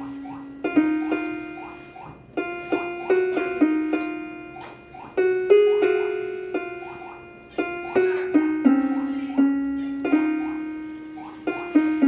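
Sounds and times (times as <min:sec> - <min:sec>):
electronic keyboard harp melody: 0:00.0 - 0:12.0.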